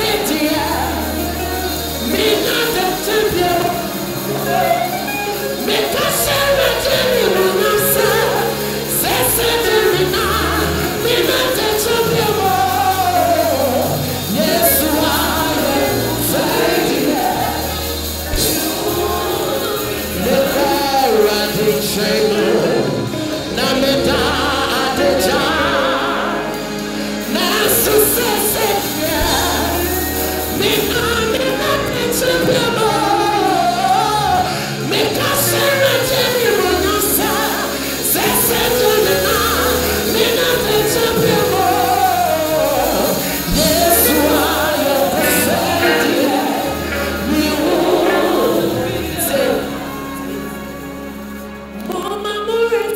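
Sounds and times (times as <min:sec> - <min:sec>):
man singing into microphone: 0:00.0 - 0:50.2
electric guitar: 0:00.0 - 0:52.8
bass line: 0:00.0 - 0:52.9
keyboard: 0:00.0 - 0:52.9.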